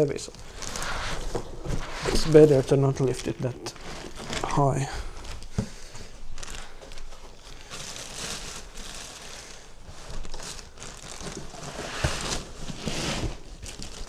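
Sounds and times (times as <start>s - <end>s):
cardboard box rustling: 0.0s - 14.0s.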